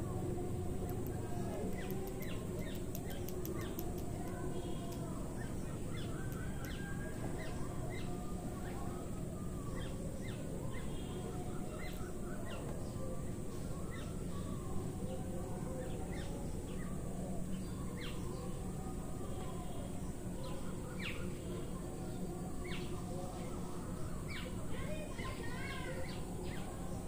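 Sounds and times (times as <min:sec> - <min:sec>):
small birds chirping: 0:00.0 - 0:27.0
steady low background noise: 0:00.0 - 0:27.0.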